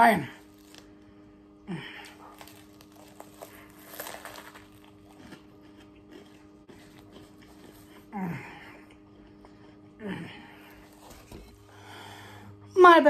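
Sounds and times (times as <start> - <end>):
person chewing a sandwich: 0.4 - 12.3.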